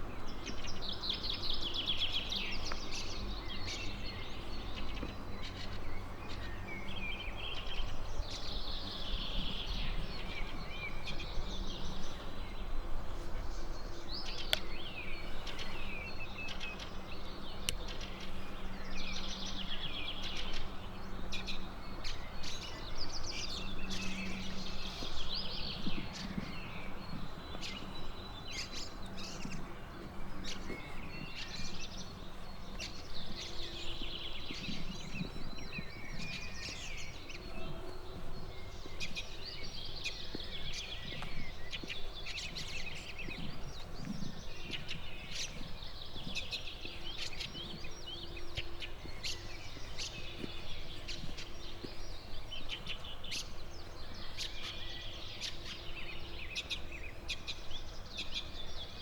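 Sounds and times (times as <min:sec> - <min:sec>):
songbirds trilling and chirping: 0:00.0 - 0:59.0.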